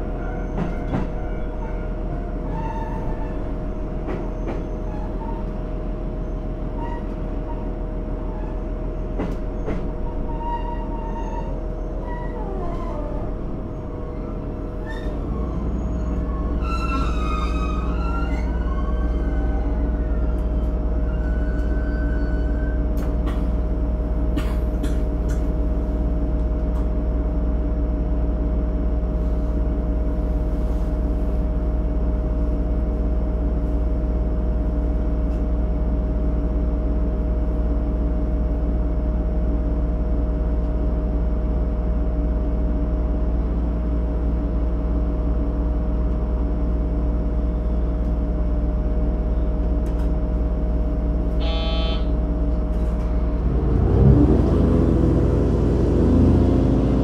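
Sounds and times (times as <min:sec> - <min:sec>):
diesel railcar engine drone: 0:00.0 - 0:57.0.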